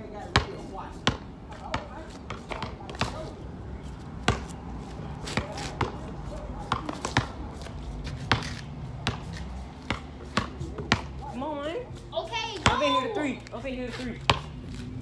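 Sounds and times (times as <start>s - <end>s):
basketball bouncing on pavement: 0.0s - 15.0s.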